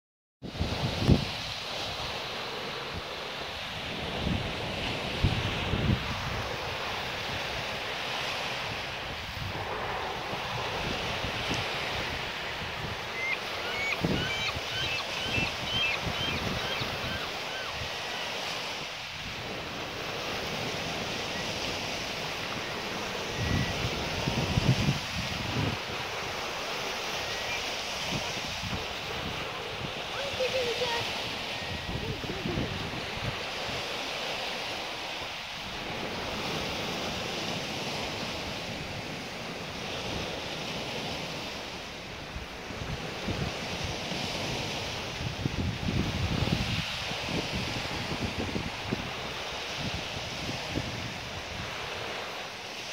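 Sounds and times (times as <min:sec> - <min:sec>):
wind buffeting microphone: 0:00.4 - 0:02.2, 0:02.9 - 0:41.6, 0:42.2 - 0:52.3
waves breaking over rocks: 0:00.5 - 0:52.9.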